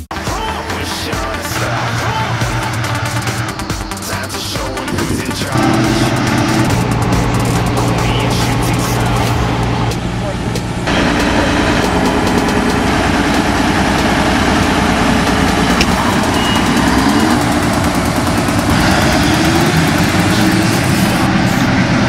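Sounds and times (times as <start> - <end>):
combine harvester running: 0.1 - 22.0
rising machine tone: 0.2 - 22.0.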